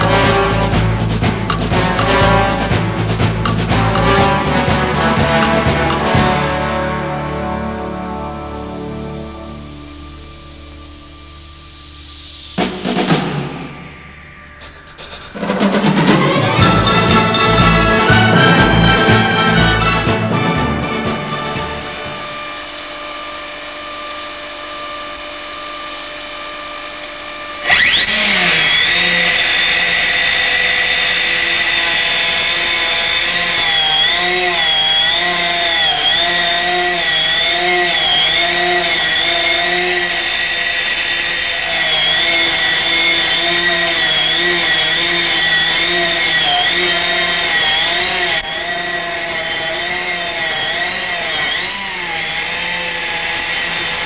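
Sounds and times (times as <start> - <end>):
machine humming: 0.0 - 54.0
stone-cutting saw whine: 0.0 - 54.0.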